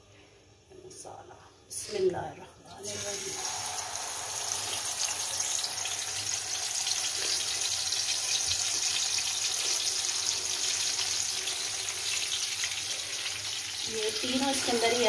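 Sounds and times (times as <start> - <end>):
fish sizzling in hot oil: 2.8 - 15.0.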